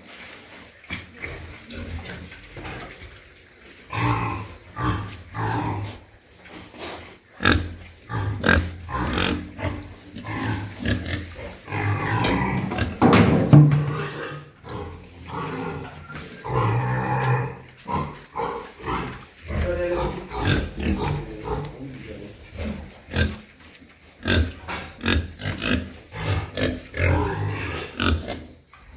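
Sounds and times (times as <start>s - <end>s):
pigs grunting and oinking: 0.6s - 28.9s.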